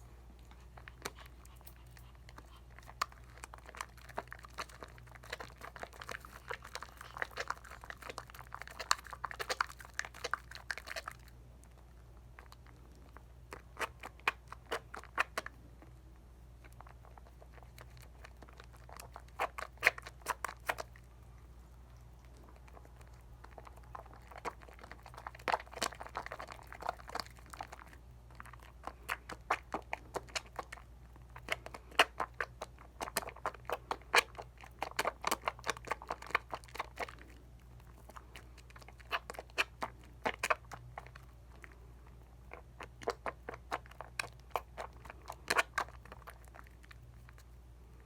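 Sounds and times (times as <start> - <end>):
soap lather squishing: 0.0 - 48.0.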